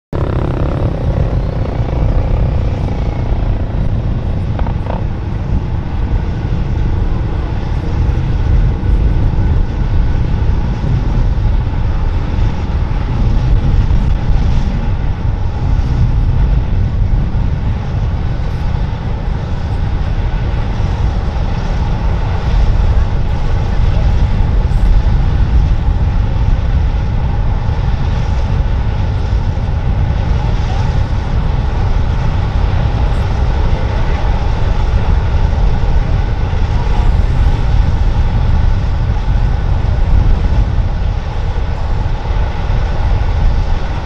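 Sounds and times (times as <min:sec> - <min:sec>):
helicopter rotor and turbine rumble: 0:00.1 - 0:44.0.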